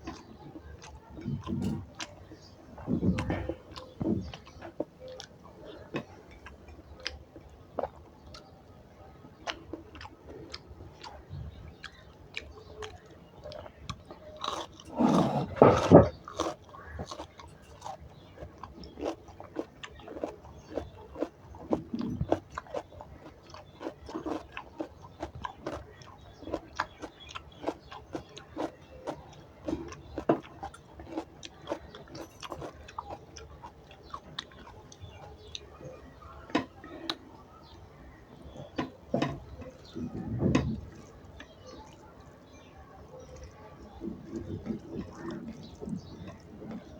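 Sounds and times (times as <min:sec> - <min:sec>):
person chewing wetly: 0:00.0 - 0:46.9.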